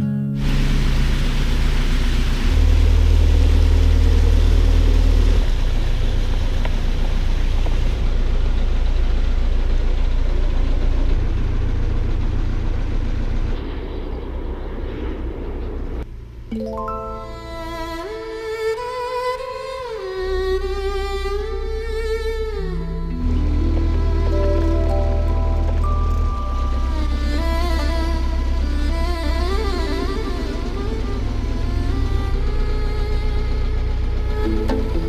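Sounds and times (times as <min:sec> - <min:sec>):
diesel engine rumbling: 0:00.4 - 0:35.0.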